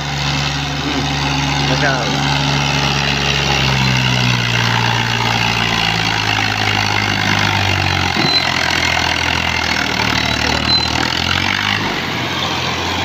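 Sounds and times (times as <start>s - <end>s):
tractor diesel engine labouring: 0.0s - 13.0s.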